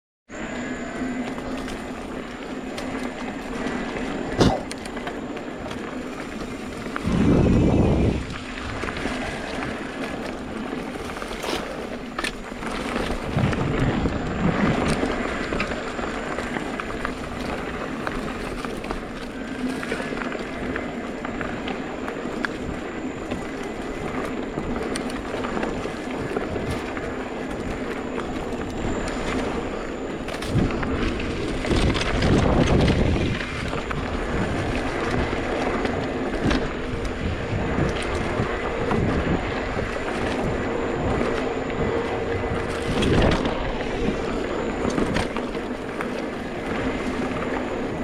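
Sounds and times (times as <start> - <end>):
bike rattling: 0.3 - 48.0
mountain bike tyre and drivetrain noise: 0.3 - 48.0
wind on microphone: 0.3 - 48.0.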